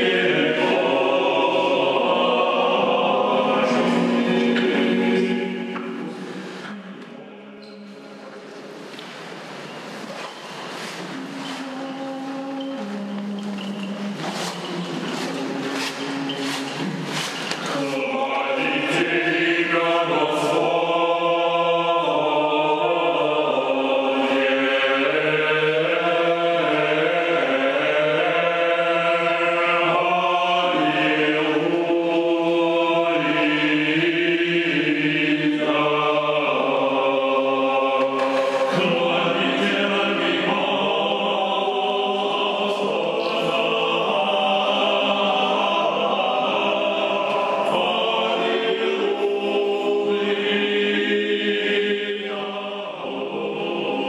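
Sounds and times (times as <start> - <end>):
choir chanting: 0.0 - 8.6, 11.2 - 54.0.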